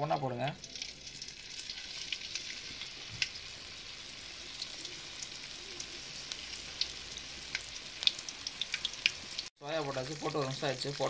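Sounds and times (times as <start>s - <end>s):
batter deep-frying in hot oil: 0.0s - 11.0s.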